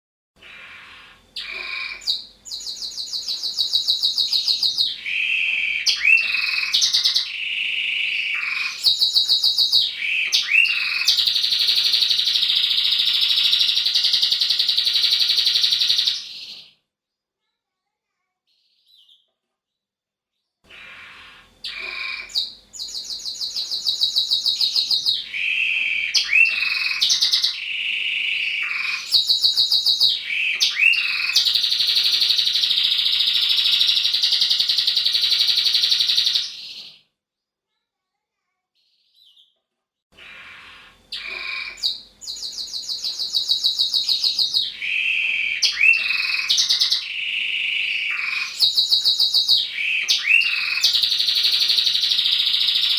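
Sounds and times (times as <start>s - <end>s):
canary singing trills: 0.4s - 16.7s, 20.7s - 37.0s, 40.2s - 52.9s.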